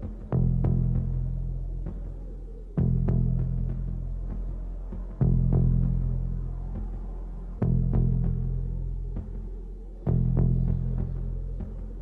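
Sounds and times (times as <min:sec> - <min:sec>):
low drone: 0:00.0 - 0:12.0.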